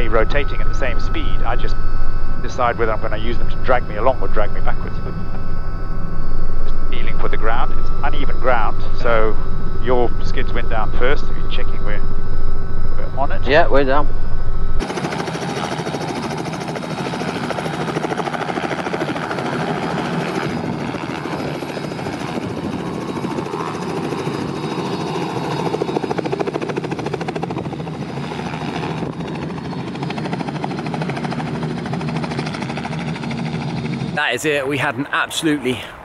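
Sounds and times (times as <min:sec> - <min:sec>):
helicopter turbine and rotor: 0:00.0 - 0:36.0.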